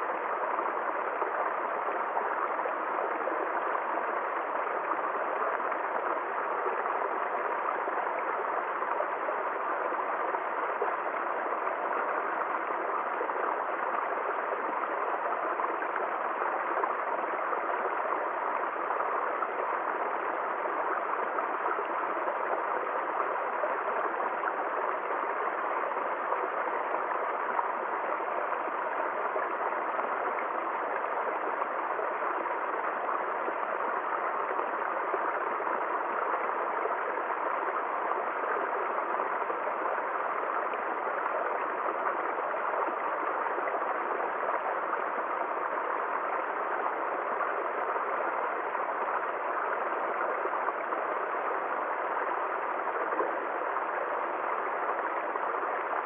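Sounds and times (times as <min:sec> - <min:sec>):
stream splashing over rocks: 0:00.0 - 0:56.0.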